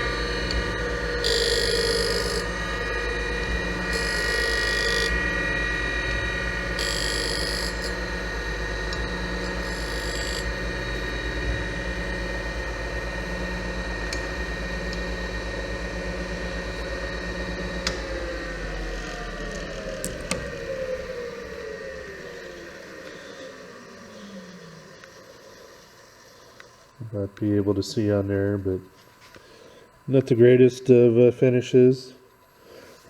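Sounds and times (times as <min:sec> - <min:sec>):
surface grinder humming and whining: 0:00.0 - 0:28.0.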